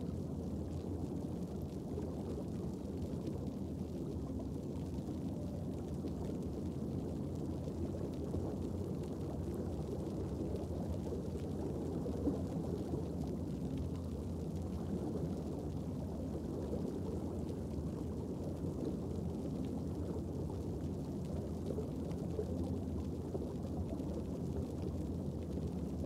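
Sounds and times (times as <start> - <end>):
faint underwater crackle: 0.0 - 26.0
underwater low rumble: 0.0 - 26.0.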